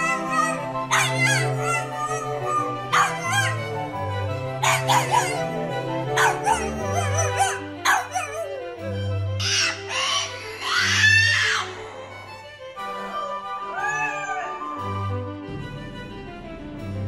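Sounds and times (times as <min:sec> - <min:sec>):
dog howling: 0:00.0 - 0:15.2.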